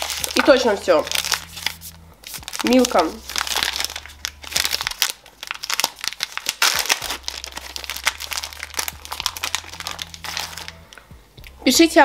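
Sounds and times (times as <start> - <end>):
wrapper tearing and crinkling: 0.0 - 11.0.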